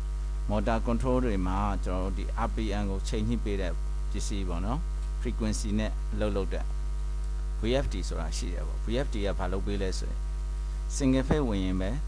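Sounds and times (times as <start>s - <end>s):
electrical mains hum: 0.0s - 12.0s
person talking: 0.5s - 6.7s, 7.6s - 10.2s, 10.9s - 12.0s.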